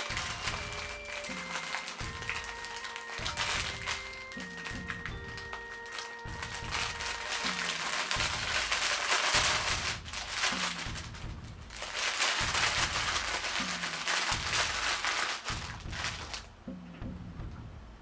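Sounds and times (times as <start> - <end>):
packaging crinkling: 0.0 - 16.5
background music with bass line: 0.1 - 18.0.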